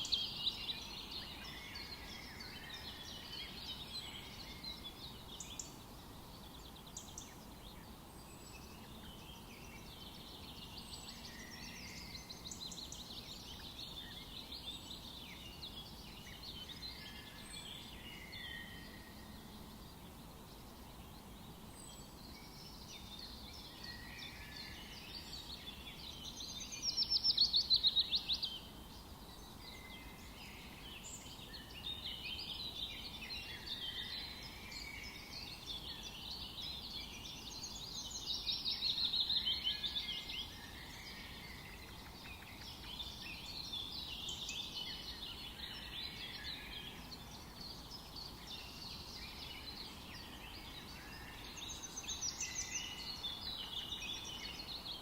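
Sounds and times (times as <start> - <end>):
faint background hiss: 0.0 - 55.0
songbirds singing and chirping: 0.0 - 55.0.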